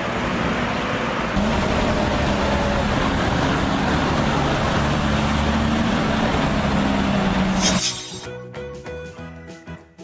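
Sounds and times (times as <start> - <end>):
armored vehicle engine running: 0.0 - 8.2
road noise: 0.0 - 8.4.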